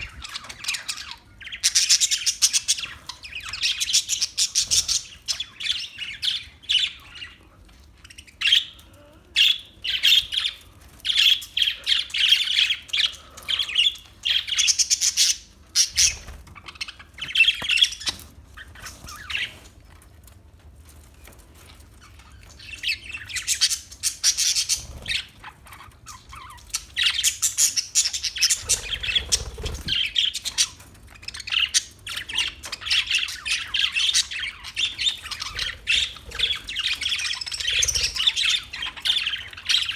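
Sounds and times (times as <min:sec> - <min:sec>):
parakeets chirping and squawking: 0:00.0 - 0:39.9.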